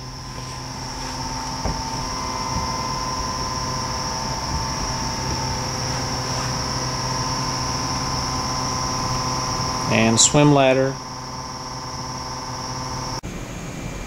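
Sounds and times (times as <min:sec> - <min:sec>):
background hum with whine: 0:00.0 - 0:14.0.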